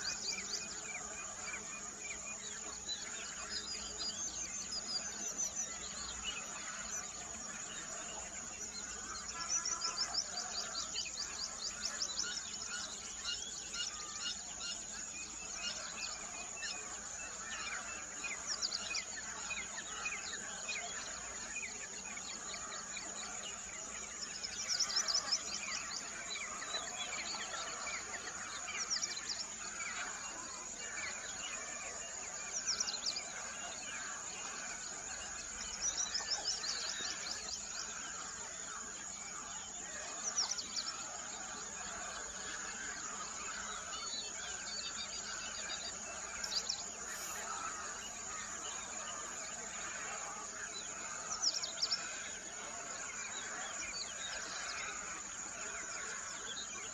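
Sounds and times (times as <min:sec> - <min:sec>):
songbirds chirping and trilling: 0:00.0 - 0:56.9.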